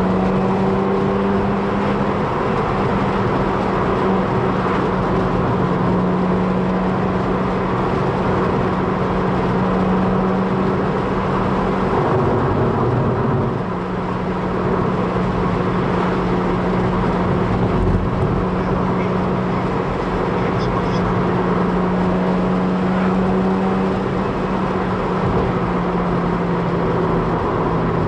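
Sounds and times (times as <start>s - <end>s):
car engine running: 0.0s - 28.0s
road and wind noise: 0.0s - 28.0s.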